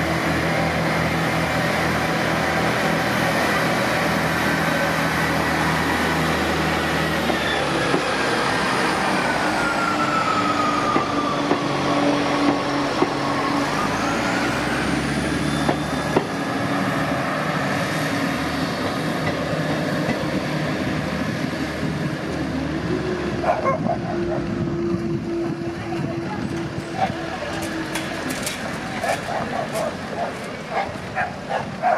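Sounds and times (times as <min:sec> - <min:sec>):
diesel train engines under load: 0:00.0 - 0:31.9.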